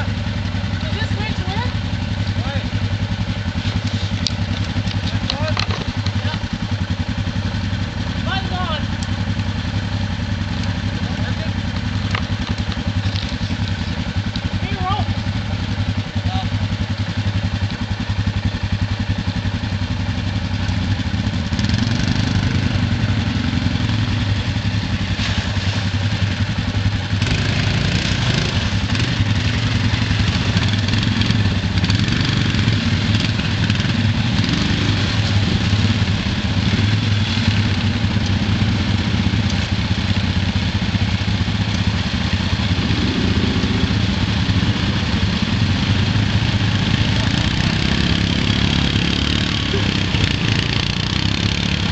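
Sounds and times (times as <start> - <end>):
atv engine idling: 0.0 - 51.9
quad driving through mud and water: 0.0 - 51.9.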